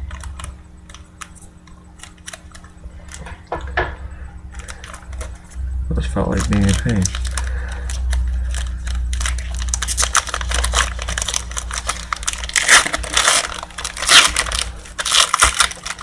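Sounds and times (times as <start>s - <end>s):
packaging crinkling and crackling: 0.0s - 16.0s.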